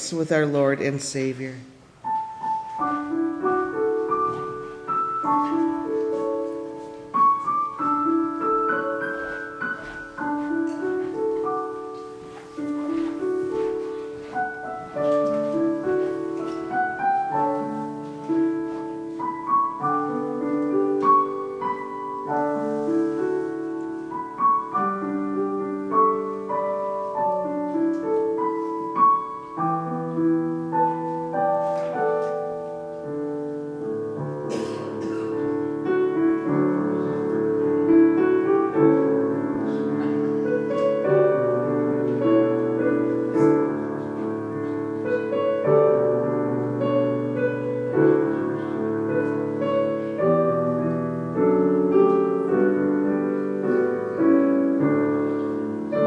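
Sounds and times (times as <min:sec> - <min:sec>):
slow piano piece: 0:00.0 - 0:56.0.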